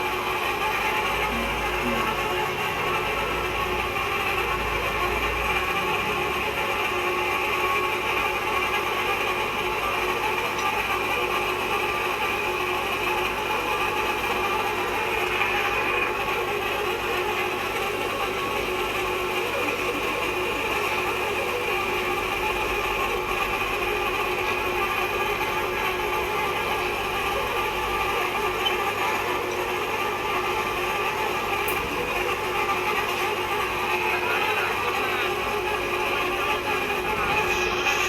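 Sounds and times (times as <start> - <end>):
machine running with hum: 0.0 - 38.0.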